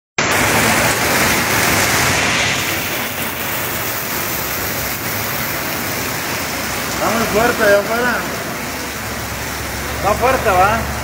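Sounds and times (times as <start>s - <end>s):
heavy rain on pavement: 0.2s - 11.0s.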